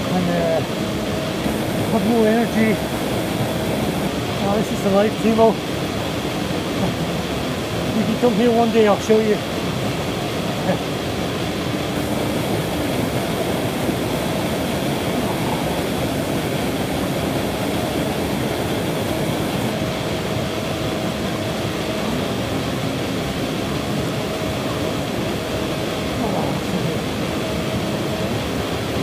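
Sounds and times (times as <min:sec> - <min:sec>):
waterfall rushing into pool: 0:00.0 - 0:29.0.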